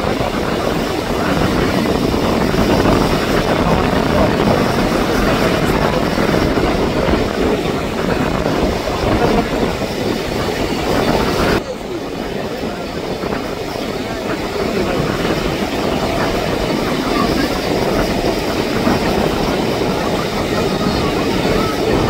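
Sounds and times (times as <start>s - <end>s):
waves breaking: 0.0s - 22.0s.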